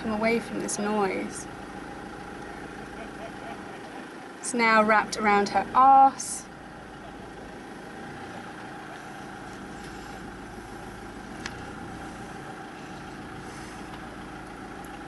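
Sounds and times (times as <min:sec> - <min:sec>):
vehicle engine running inside cab: 0:00.0 - 0:15.0.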